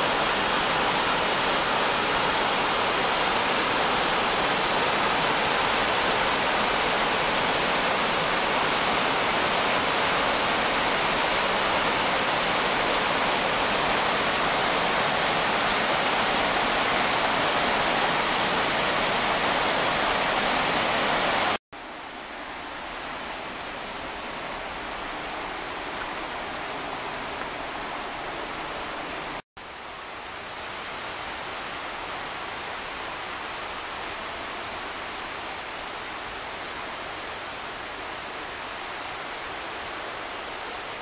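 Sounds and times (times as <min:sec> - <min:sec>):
white water rushing over boulders: 0:00.0 - 0:41.0.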